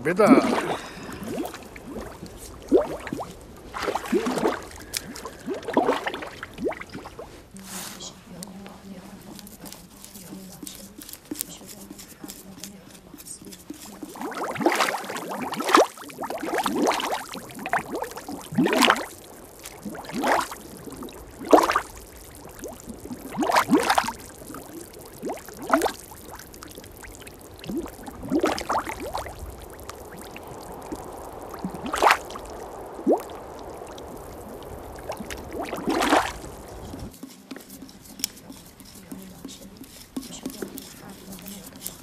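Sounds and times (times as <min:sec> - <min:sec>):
wet clay squelching: 0:00.0 - 0:42.0.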